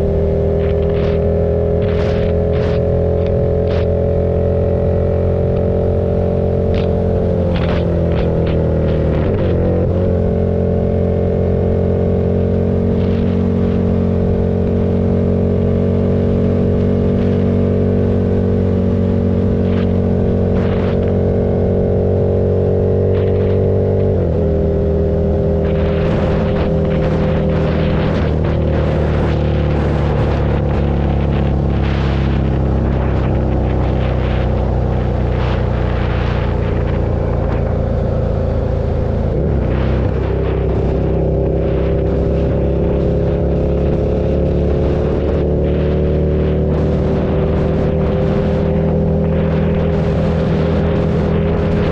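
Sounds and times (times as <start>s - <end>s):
gusty crackly noise: 0.0s - 51.9s
motorcycle engine running: 0.0s - 51.9s.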